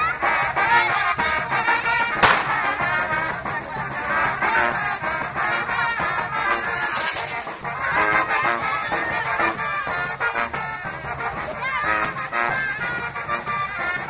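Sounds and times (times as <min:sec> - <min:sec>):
brass music: 0:00.2 - 0:06.7, 0:07.8 - 0:14.0.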